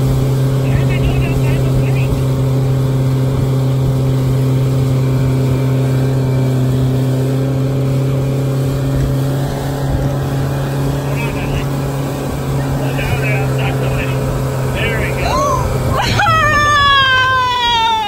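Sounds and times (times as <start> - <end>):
outboard motor running: 0.0 - 18.0
water rushing: 0.0 - 18.0
wind: 0.0 - 18.0.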